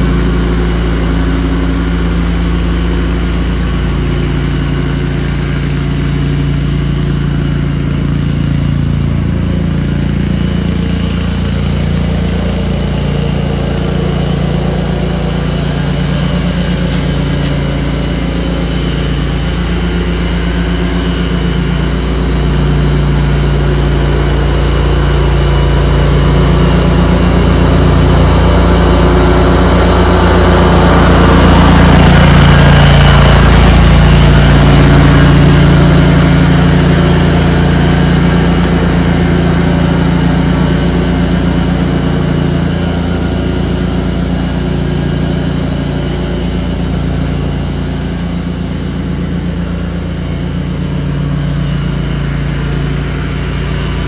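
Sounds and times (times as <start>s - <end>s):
garden tractor engine mowing grass: 0.0s - 54.0s.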